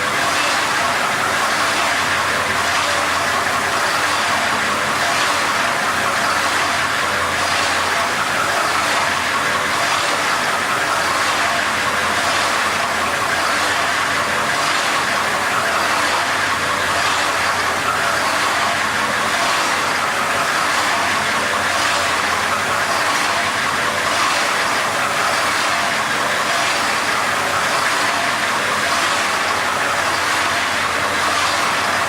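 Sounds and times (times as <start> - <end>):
wet grinder running: 0.0 - 32.0.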